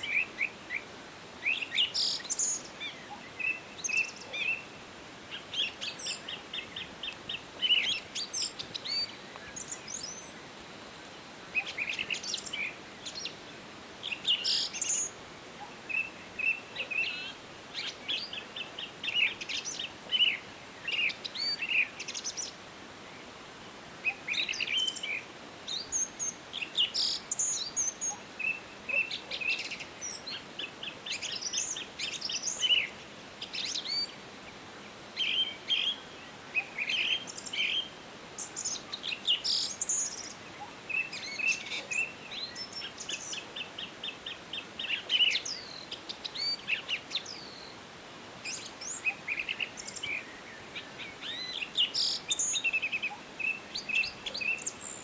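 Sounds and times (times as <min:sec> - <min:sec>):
faint steady hiss: 0:00.0 - 0:55.0
songbirds chirping and trilling: 0:00.0 - 0:55.0.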